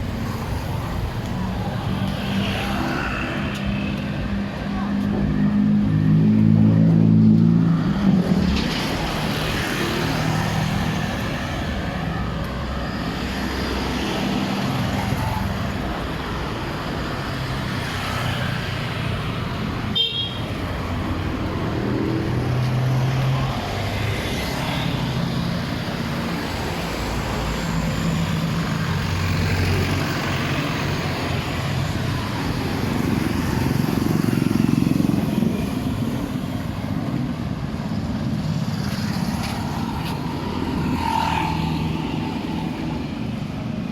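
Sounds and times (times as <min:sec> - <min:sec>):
steady road noise: 0:00.0 - 0:43.9
vehicle engines passing: 0:00.0 - 0:43.9.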